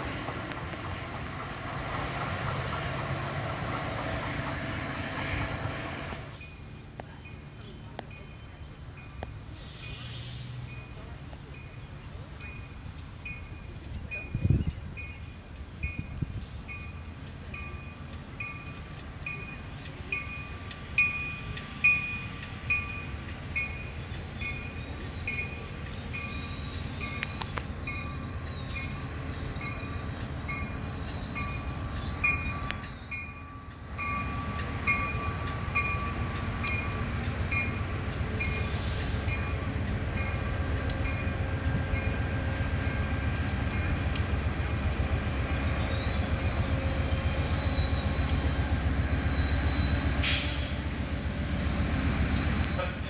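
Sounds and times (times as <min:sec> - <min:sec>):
train rumbling: 0:00.0 - 0:53.0.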